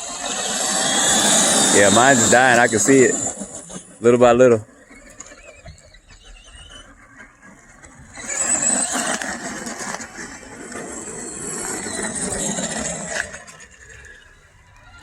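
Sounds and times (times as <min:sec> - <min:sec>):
rc trucks motors whining: 0:00.0 - 0:15.0.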